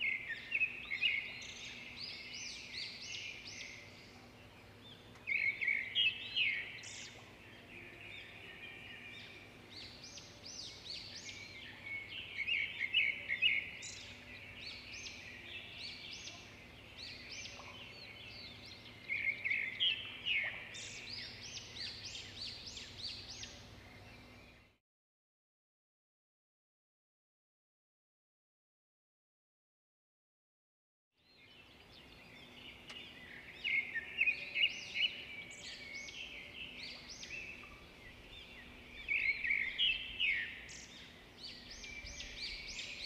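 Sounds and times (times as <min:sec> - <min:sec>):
small birds chirping: 0:00.0 - 0:24.8, 0:31.2 - 0:43.0.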